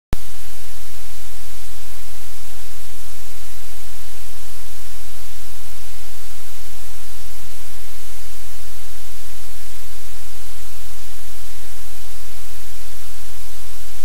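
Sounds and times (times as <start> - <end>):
low electrical hum: 0.2 - 14.0
static hiss: 0.2 - 14.0.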